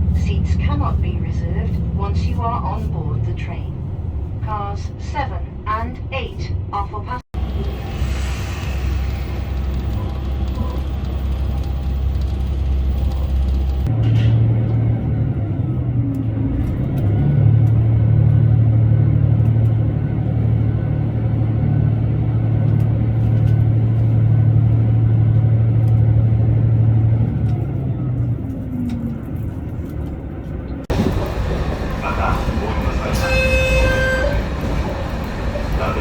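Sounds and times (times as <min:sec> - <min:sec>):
diesel train engine drone: 0:00.0 - 0:36.0.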